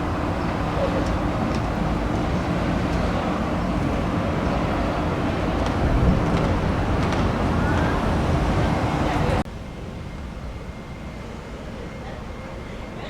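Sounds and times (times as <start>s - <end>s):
tram running rumble and hum: 0.0s - 13.0s.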